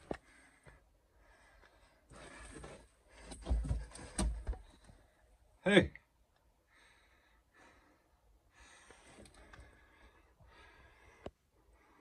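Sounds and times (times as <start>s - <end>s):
faint slow breaths: 0.0s - 5.6s, 6.4s - 12.0s.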